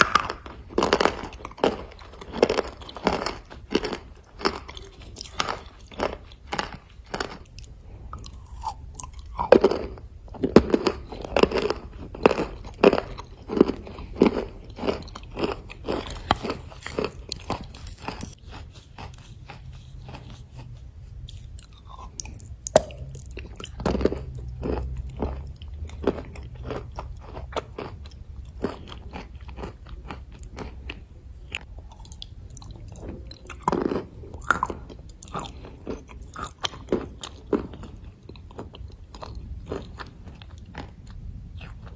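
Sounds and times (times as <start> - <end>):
crunchy chewing of dry clay: 0.0 - 41.9.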